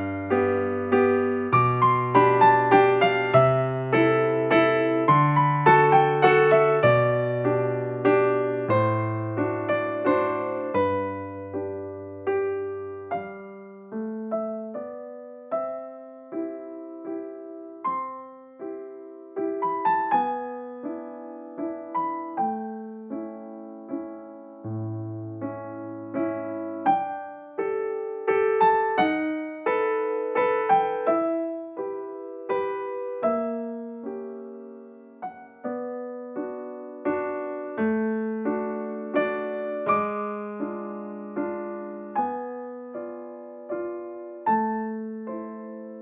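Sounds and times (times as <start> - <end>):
gentle piano melody: 0.0 - 46.0.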